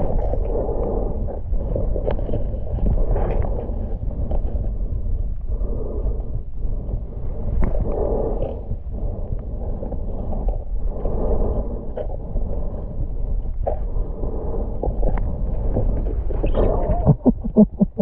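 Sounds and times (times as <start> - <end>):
muffled underwater rumble: 0.0 - 18.0.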